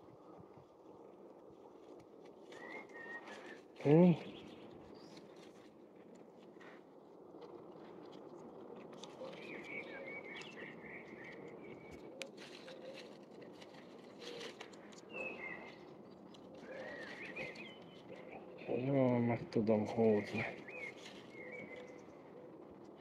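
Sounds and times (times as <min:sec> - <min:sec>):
birds twittering: 0:02.4 - 0:06.7, 0:07.9 - 0:23.0.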